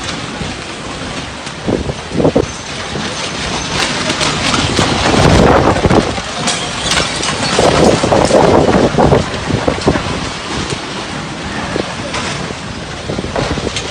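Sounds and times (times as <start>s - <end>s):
storm wind gusting on microphone: 0.0s - 13.9s.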